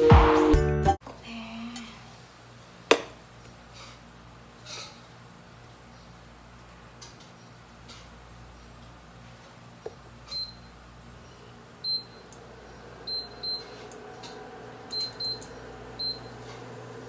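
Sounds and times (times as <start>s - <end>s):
faint cooktop hum: 1.0s - 17.0s.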